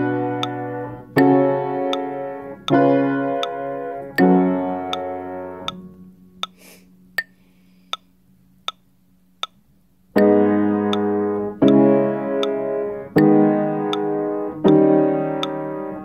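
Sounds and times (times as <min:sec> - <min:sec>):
piano chords: 0:00.0 - 0:07.2, 0:10.1 - 0:16.0
steady ticking: 0:00.0 - 0:15.7.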